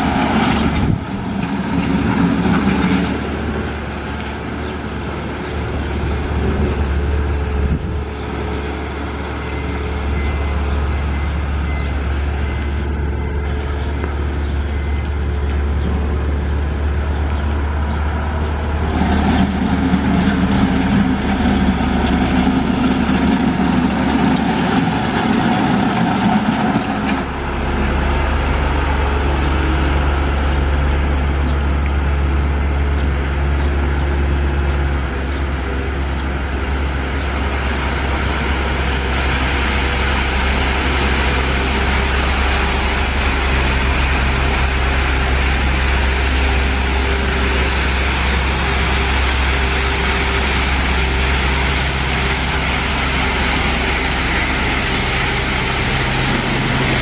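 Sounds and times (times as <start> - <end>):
deep steady drone: 0.0 - 57.0
diesel engine running: 0.0 - 57.0.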